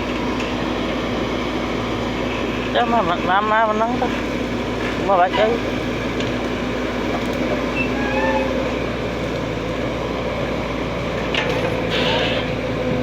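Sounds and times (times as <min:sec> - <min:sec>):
machine engine droning: 0:00.0 - 0:13.0.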